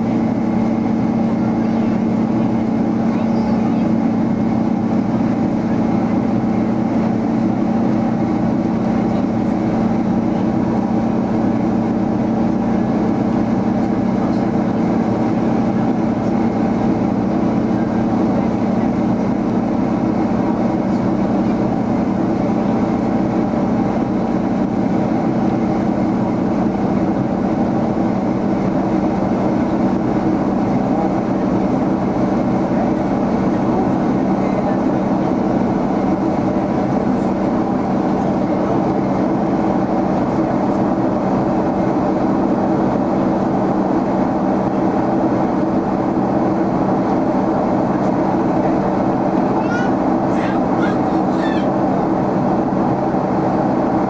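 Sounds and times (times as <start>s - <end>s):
airliner cabin engine drone: 0.0s - 54.0s
steady low hum: 0.0s - 54.0s.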